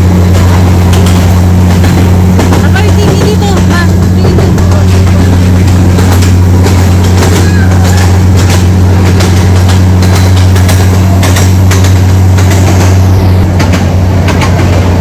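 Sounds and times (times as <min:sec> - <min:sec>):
large vehicle engine droning: 0:00.0 - 0:15.0
clicks and rattles: 0:00.3 - 0:13.0.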